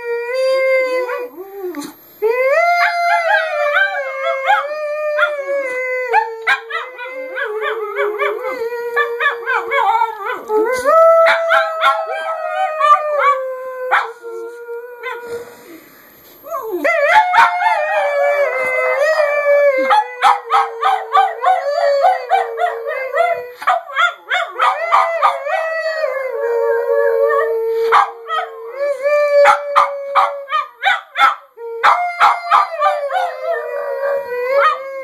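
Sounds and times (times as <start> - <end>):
dog howling with yips: 0.9 - 15.3, 16.5 - 35.0.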